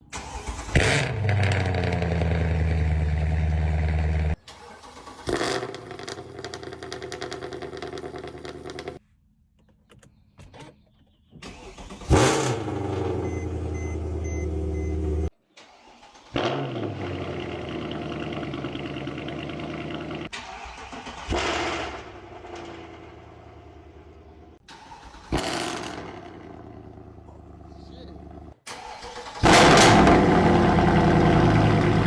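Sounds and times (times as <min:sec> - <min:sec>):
car engine starting and revving: 0:00.0 - 0:09.0, 0:11.4 - 0:32.0.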